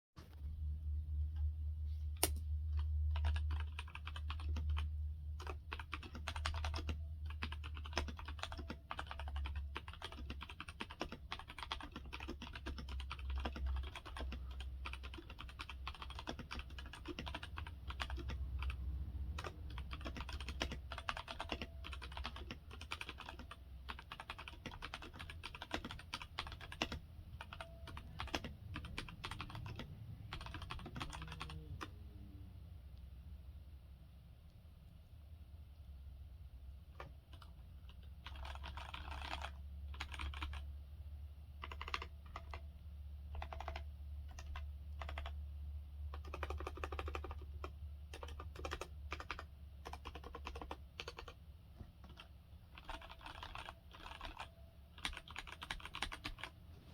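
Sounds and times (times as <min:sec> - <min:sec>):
low steady hum: 0:00.2 - 0:56.9
fast typing on mechanical keyboard: 0:02.8 - 0:31.9, 0:37.0 - 0:40.8, 0:41.6 - 0:42.7, 0:43.3 - 0:45.4, 0:46.1 - 0:51.4, 0:52.0 - 0:56.6.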